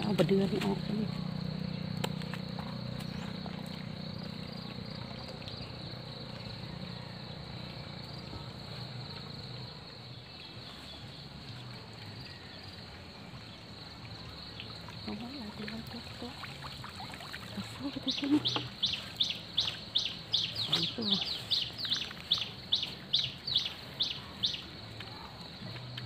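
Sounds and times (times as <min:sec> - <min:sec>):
high-pitched insect chorus: 0:00.0 - 0:25.6.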